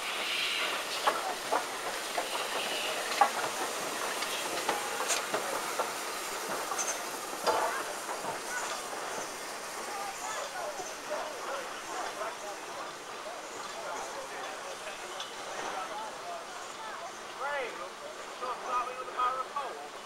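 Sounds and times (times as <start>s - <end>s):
steam hissing: 0.0s - 20.0s
steam locomotive wheels clanking: 0.0s - 20.0s.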